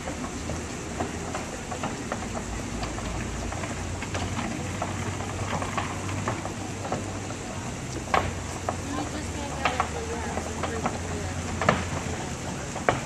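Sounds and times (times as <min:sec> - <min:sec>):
low city hum: 0:00.0 - 0:13.0.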